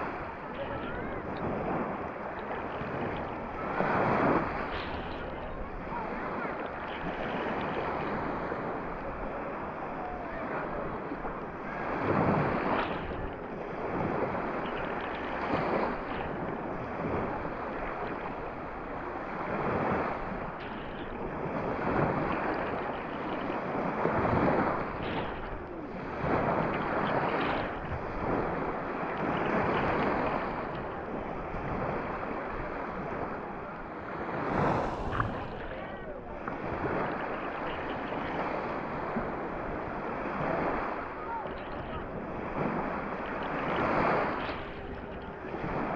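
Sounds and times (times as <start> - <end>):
waves breaking on sand: 0.0 - 45.9.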